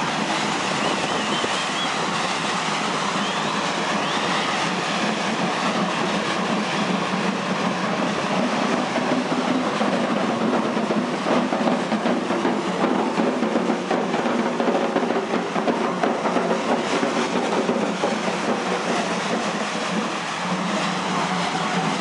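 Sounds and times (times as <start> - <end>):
metal hand cart rattling on asphalt: 0.0 - 22.0.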